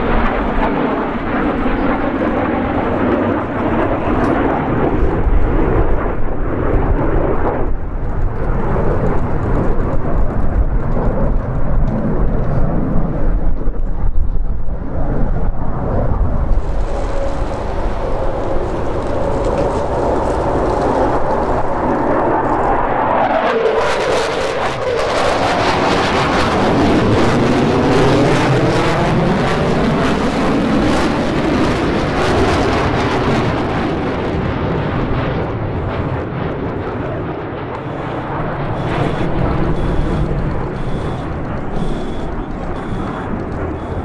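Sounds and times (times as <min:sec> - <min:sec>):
fighter jet passing: 0:00.0 - 0:44.0.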